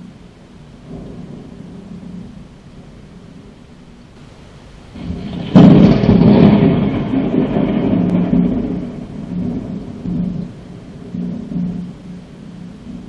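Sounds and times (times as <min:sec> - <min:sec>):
thunderclap with low rumble: 0:00.0 - 0:13.0.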